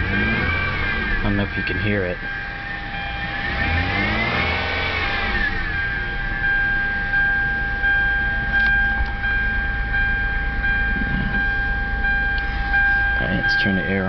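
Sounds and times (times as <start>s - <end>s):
car engine running: 0.0s - 14.0s
high-pitched belt drive whine: 0.0s - 14.0s.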